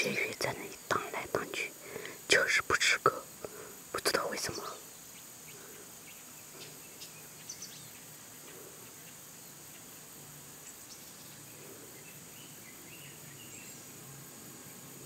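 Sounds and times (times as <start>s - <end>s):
high-pitched insect drone: 0.0s - 15.0s
insect chirps: 0.0s - 15.0s.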